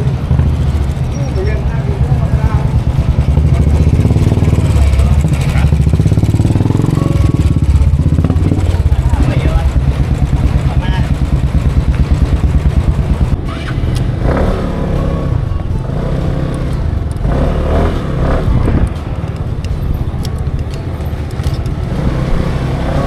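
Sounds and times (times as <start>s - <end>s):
engines throbbing and rumbling: 0.0s - 23.0s.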